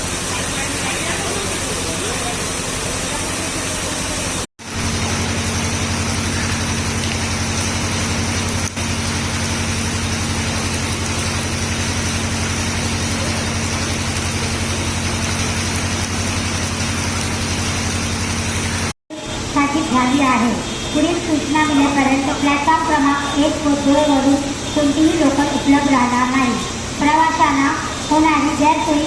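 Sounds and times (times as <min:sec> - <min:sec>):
engine humming steadily: 0:00.0 - 0:29.0.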